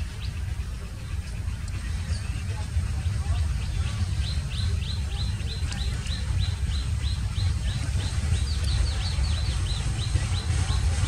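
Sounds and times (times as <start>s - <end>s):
bird chirping: 0.0s - 11.0s
steady low rumble: 0.0s - 11.0s.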